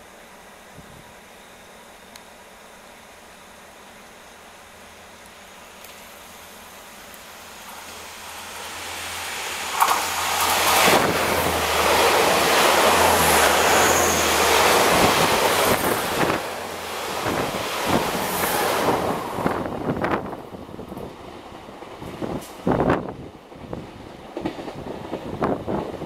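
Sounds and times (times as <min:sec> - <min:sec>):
wheels rushing on rail: 0:00.2 - 0:26.0
train passing: 0:02.9 - 0:26.0.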